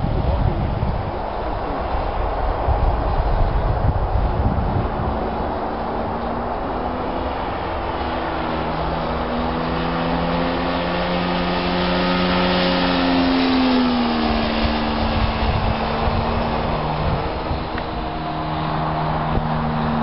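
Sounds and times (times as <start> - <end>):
model airplane engine drone: 0.0 - 20.0
wind rumble on microphone: 0.0 - 20.0.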